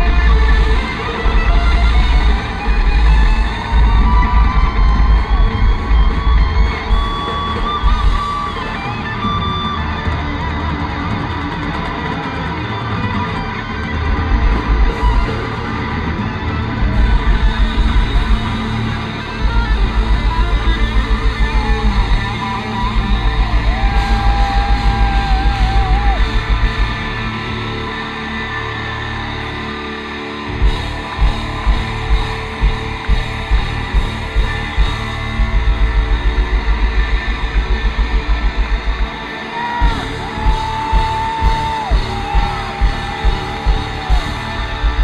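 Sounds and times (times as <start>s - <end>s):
fast kick-drum runs: 0.0s - 9.4s, 13.9s - 27.5s, 30.5s - 45.0s
bass guitar: 0.0s - 45.0s
distorted electric guitars: 0.0s - 45.0s.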